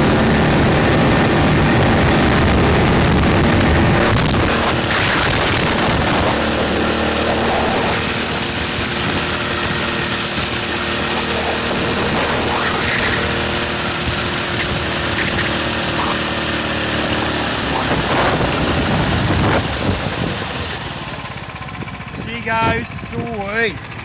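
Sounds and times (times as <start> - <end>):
buggy engine running: 0.0 - 24.0.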